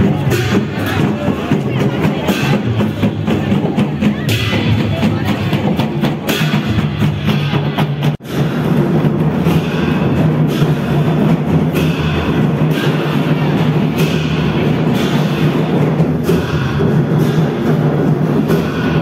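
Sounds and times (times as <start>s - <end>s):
crowd: 0.0s - 19.0s
procession drums and percussion: 0.0s - 19.0s.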